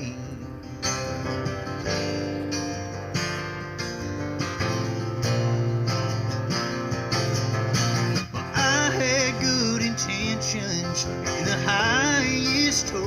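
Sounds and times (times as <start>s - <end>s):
instrumental guitar and bass music: 0.0s - 13.0s.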